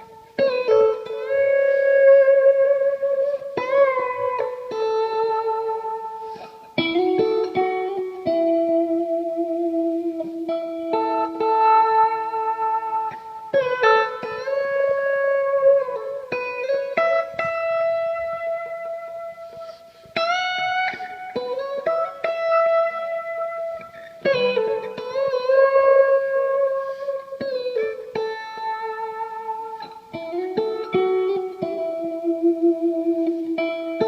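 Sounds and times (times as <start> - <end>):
guitar notes with vibrato: 0.0 - 34.0.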